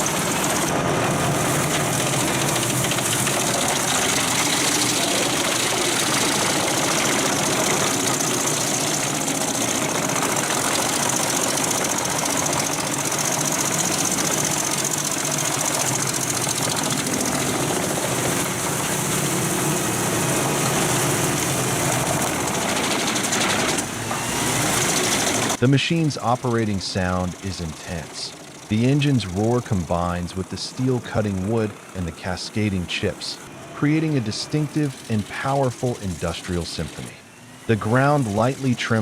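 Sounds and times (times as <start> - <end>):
engine running hard: 0.0 - 39.0
wood chipper drum chipping logs: 0.0 - 39.0.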